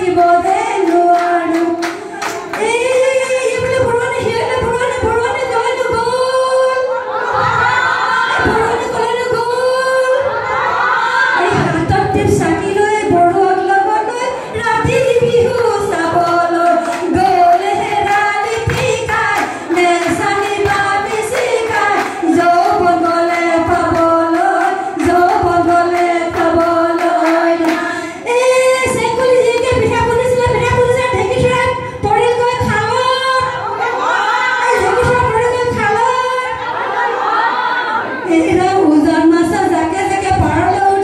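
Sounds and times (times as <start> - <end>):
woman singing into a microphone: 0.0 - 7.1, 8.3 - 10.4, 11.3 - 33.8, 34.6 - 36.7, 38.2 - 41.0
women singing together: 0.0 - 41.0.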